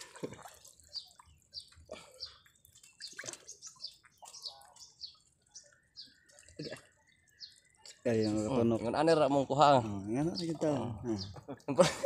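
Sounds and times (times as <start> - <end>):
small water splashes and drips: 0.0 - 12.0.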